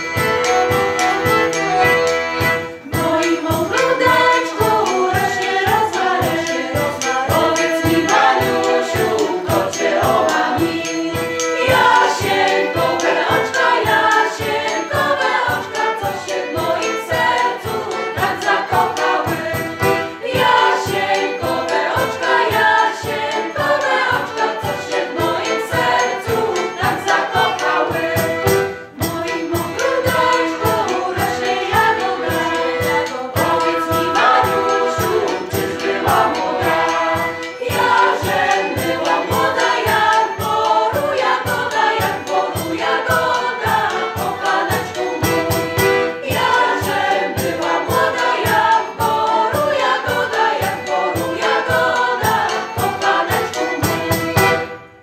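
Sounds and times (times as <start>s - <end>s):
accordion: 0.0s - 55.0s
violin: 0.0s - 55.0s
women's choir singing: 2.6s - 54.8s.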